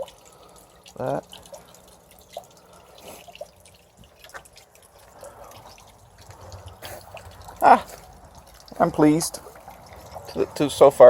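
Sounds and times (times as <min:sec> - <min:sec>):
water dripping into bucket: 0:00.0 - 0:11.0.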